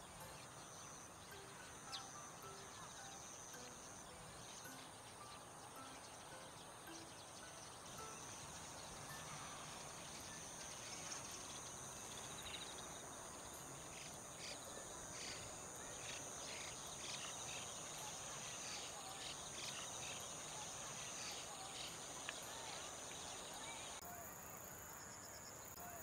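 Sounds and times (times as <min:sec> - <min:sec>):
starlings calling: 0:00.0 - 0:24.0
high-pitched insect trilling: 0:00.1 - 0:24.0.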